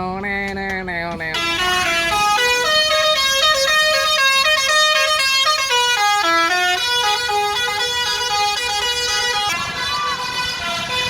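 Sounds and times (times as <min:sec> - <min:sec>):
multi-tone bus horn tune: 0:00.0 - 0:11.0.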